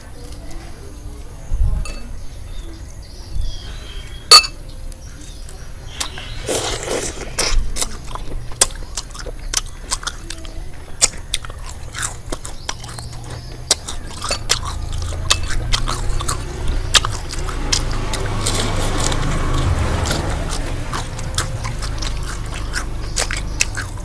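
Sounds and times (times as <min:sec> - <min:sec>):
crunchy chewing of fried food: 0:03.6 - 0:24.0.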